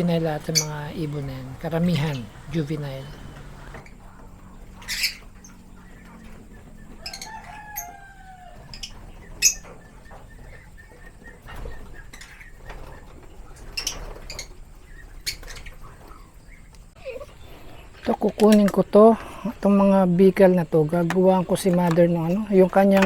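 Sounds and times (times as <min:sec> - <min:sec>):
lovebirds squawking: 0:00.0 - 0:20.0.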